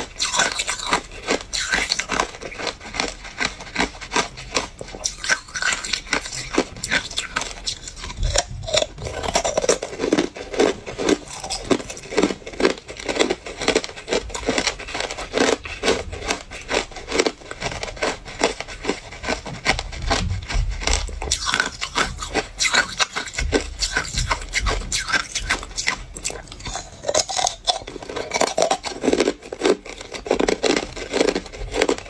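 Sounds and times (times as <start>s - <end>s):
ice cubes crunched by teeth: 0.0s - 32.0s.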